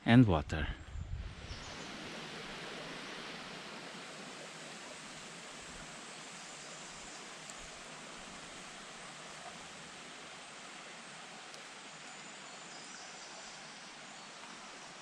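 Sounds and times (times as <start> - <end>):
stream water rushing: 1.4 - 15.0.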